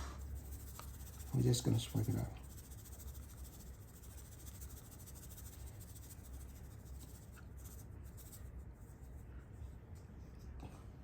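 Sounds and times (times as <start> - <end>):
low steady hum: 0.0 - 11.0
spice container shaking rustle: 0.1 - 9.2.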